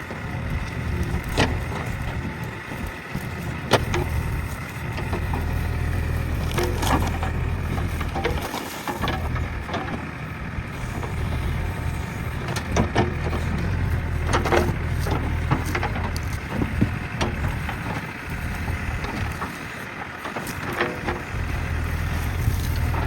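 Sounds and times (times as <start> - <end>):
diesel engine running under load: 0.0 - 23.0
branches cracking: 0.6 - 23.0.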